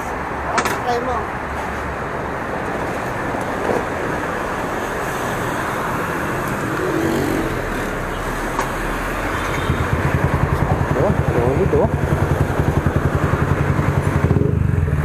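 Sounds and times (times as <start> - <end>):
street traffic: 0.0 - 15.0
motorcycle passing: 2.8 - 15.0.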